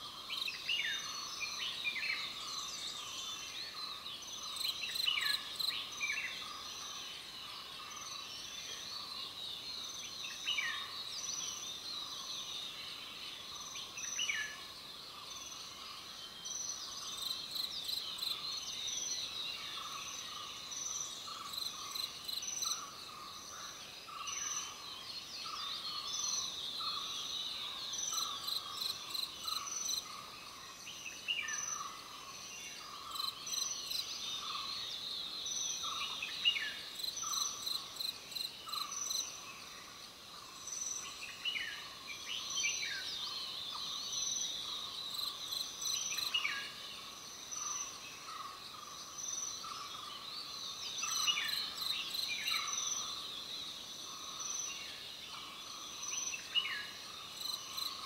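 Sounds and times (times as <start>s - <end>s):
insects calling in a pulse: 0.0s - 58.0s.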